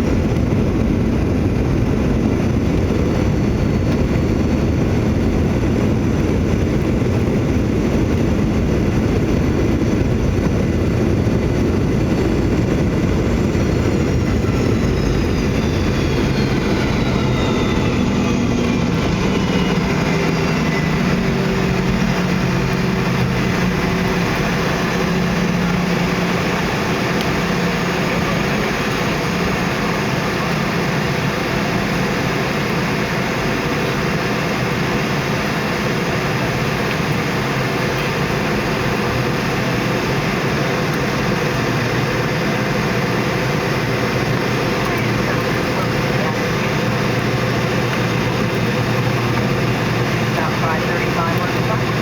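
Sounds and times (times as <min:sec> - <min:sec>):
aircraft cabin noise: 0:00.0 - 0:52.0
jet engine whine: 0:00.0 - 0:52.0.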